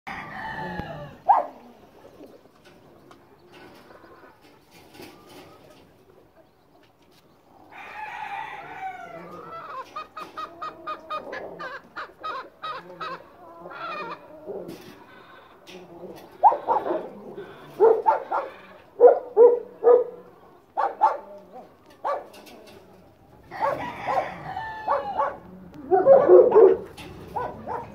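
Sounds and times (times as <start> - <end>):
hen clucking: 0.1 - 27.9.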